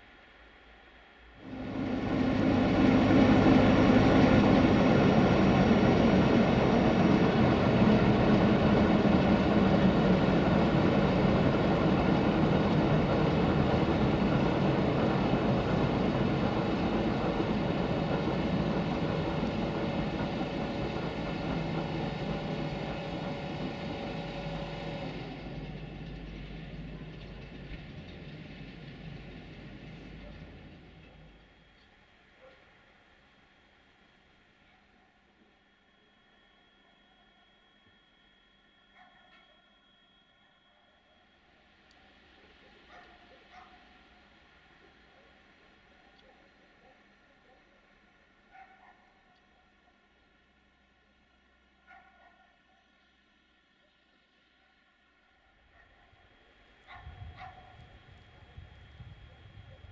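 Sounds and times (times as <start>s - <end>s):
diesel locomotive engine running: 0.0s - 47.4s, 55.1s - 59.9s.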